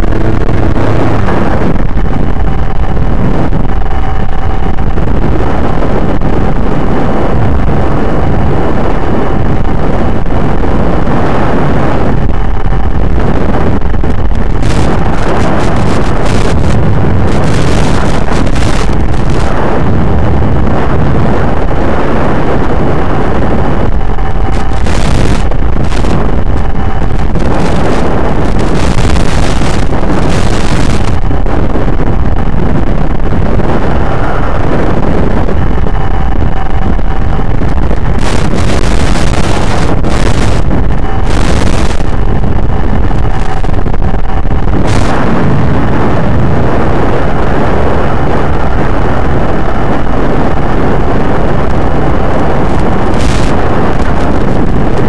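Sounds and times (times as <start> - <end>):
distorted wind rush: 0.0 - 55.0
electric motor and propeller droning: 0.0 - 55.0
thin steady whine: 0.0 - 55.0.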